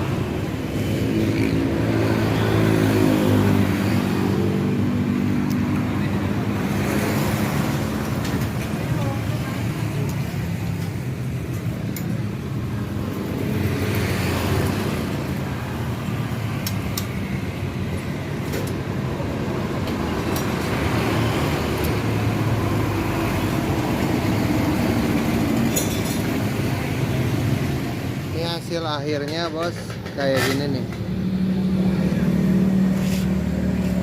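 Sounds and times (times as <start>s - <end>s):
vehicle engines running: 0.0s - 34.0s.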